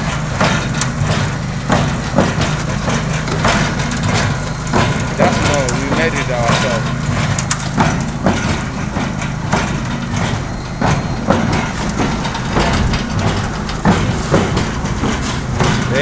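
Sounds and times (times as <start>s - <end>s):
irregular knocks and clatter: 0.0s - 16.0s
motor humming: 0.0s - 16.0s.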